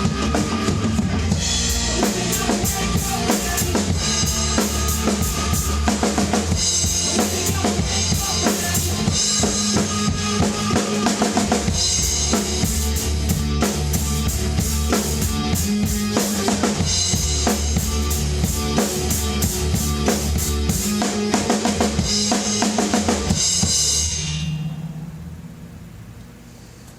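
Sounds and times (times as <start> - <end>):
acoustic drum kit rock groove: 0.0 - 25.1
heavy rock backing track: 0.0 - 26.1.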